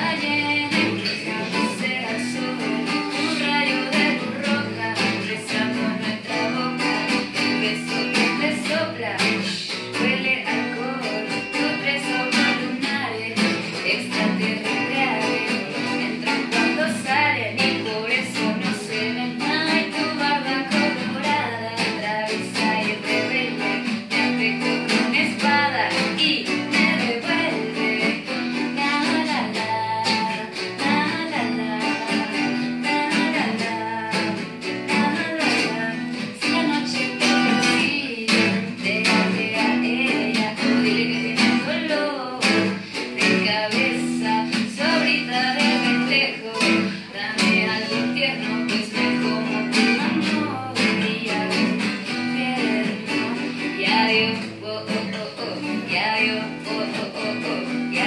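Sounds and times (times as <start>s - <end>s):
acoustic guitars strumming: 0.0s - 58.0s
woman singing: 0.0s - 58.0s.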